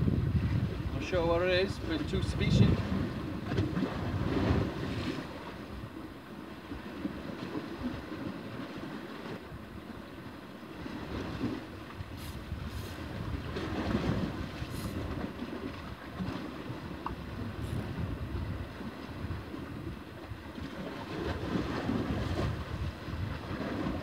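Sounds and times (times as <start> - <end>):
wind buffeting microphone: 0.0 - 10.0, 10.7 - 24.0
waves lapping against rocks: 0.2 - 24.0.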